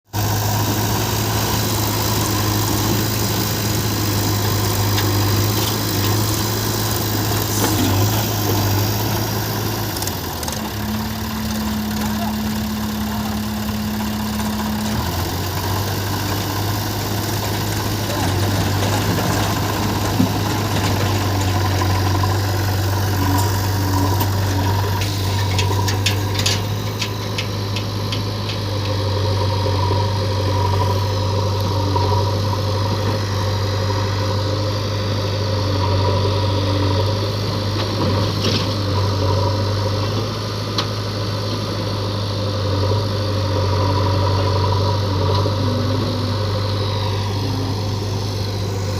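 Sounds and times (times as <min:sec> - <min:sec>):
diesel engine idling: 0:00.1 - 0:48.9.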